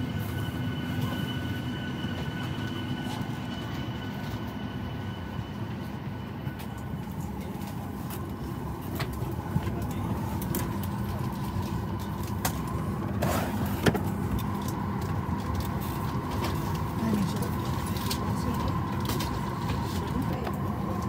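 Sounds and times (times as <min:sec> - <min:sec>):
airplane cabin hum: 0:00.0 - 0:21.0.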